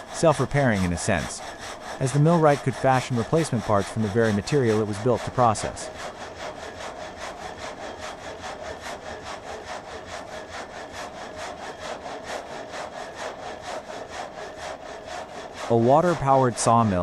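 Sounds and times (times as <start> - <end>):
saw rasping through wood: 0.0 - 17.0
steady hum: 0.0 - 17.0.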